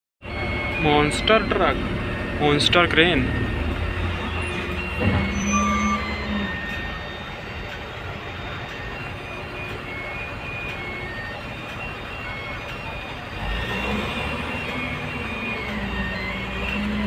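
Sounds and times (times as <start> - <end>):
truck engine rumble in cab: 0.2 - 17.0.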